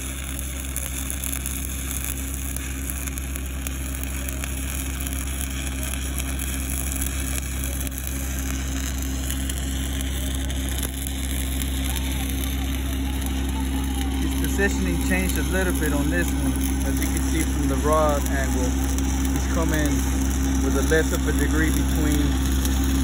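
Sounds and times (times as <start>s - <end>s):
arc welding crackling hiss: 0.0s - 23.0s
low steady hum: 0.0s - 23.0s.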